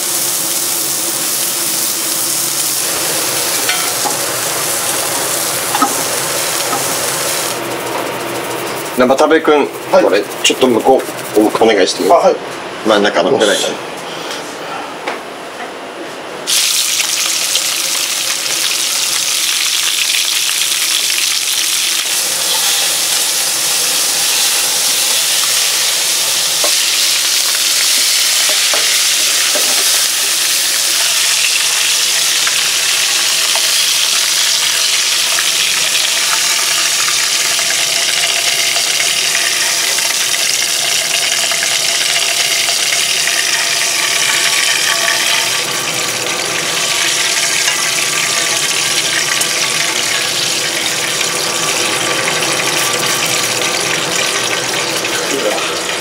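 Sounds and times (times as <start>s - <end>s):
meat sizzling in frying pan: 0.0s - 9.0s, 16.5s - 56.0s.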